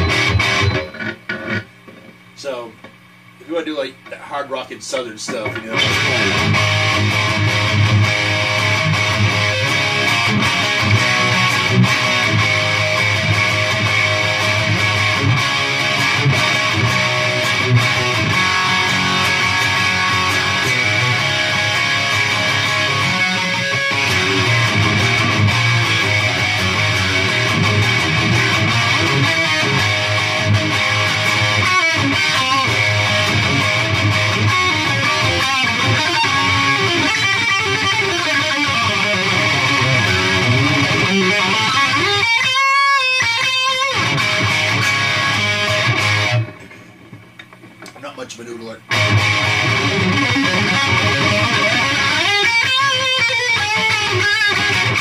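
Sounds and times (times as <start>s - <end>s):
overdriven electric guitar riffs: 0.0s - 4.2s, 4.9s - 48.2s, 48.8s - 55.0s.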